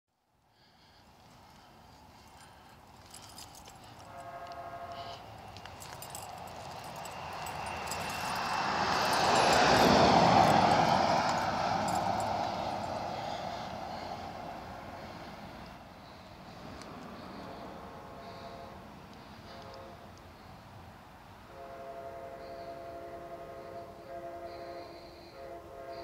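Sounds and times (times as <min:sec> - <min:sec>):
vehicle passing by: 0:00.6 - 0:21.4.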